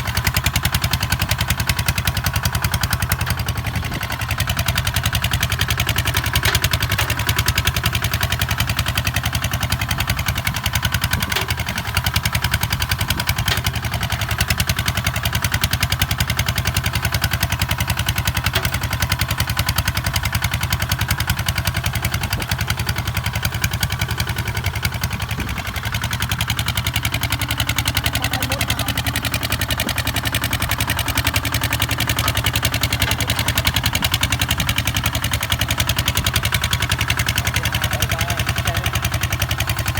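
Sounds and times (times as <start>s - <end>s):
diesel tractor engine chugging: 0.0s - 39.9s.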